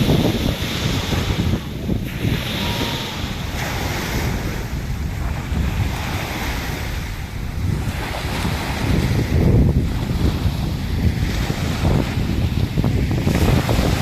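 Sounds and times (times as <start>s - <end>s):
sea surf washing on shore: 0.0s - 14.0s
wind buffeting microphone: 0.0s - 14.0s.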